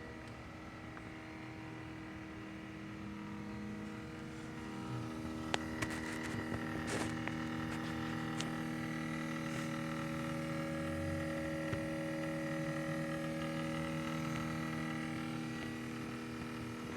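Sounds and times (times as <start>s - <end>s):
electrical hum of held tones: 0.0s - 16.9s.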